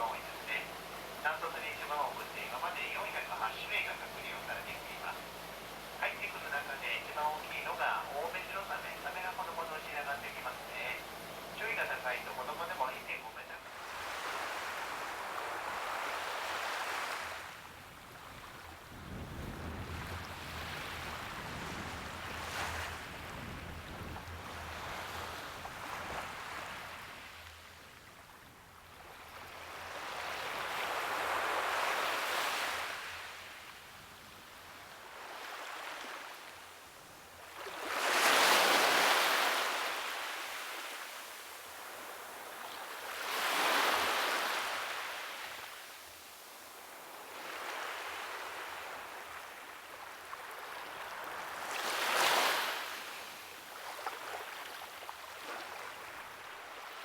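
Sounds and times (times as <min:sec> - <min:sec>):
sea waves washing onto shore: 0:00.0 - 0:57.0.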